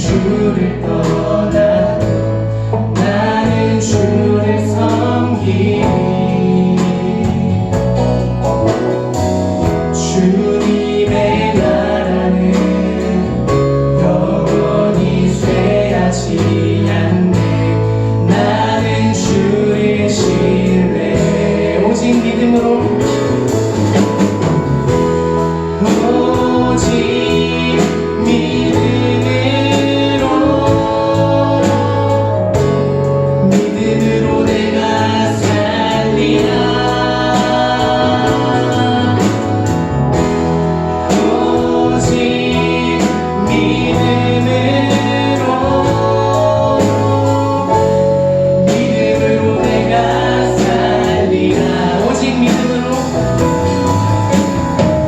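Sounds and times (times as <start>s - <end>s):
bass: 0.0s - 55.0s
worship team singing: 0.0s - 55.0s.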